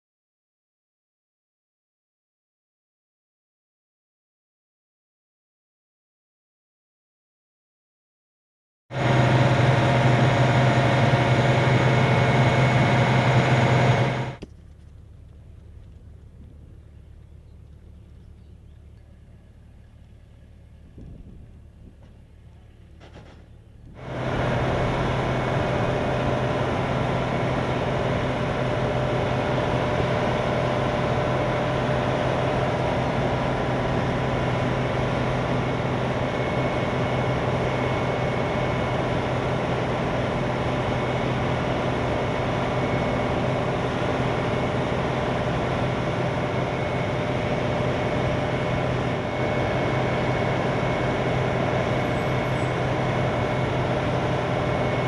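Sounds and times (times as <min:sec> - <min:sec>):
diesel engine and hydraulic drone: 0:08.9 - 0:55.0
high machine whine: 0:08.9 - 0:55.0.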